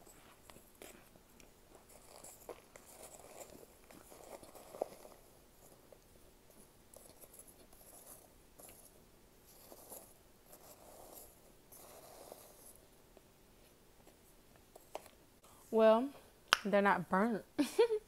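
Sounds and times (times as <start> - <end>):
soft chewing: 0.0 - 15.2.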